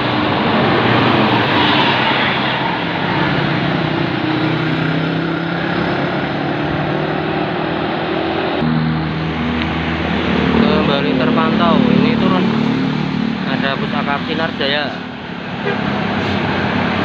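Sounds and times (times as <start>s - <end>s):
bus diesel engines: 0.0s - 17.0s
road noise: 0.0s - 17.0s.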